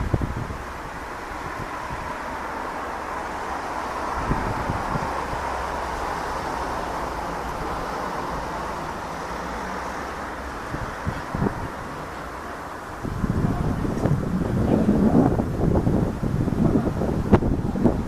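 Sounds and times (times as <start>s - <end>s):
distant jet airliner roar: 0.0s - 18.0s
gusts thumping on microphone: 0.0s - 18.0s
wind buffeting microphone: 0.0s - 18.0s.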